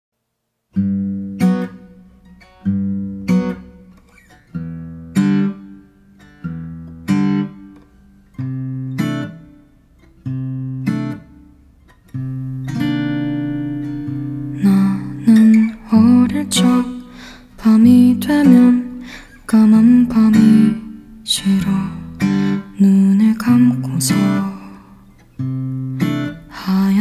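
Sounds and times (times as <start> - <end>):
acoustic guitar chords: 0.7 - 27.0.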